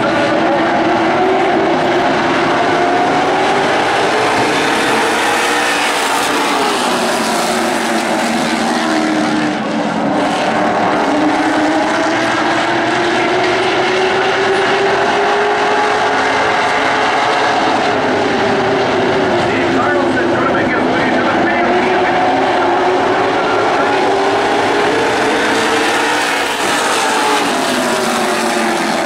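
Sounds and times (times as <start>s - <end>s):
race car engines: 0.0s - 29.0s.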